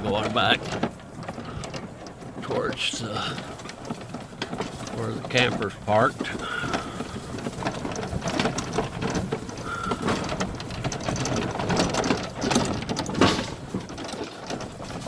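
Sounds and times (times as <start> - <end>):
vehicle rattling over rough ground: 0.0 - 15.0.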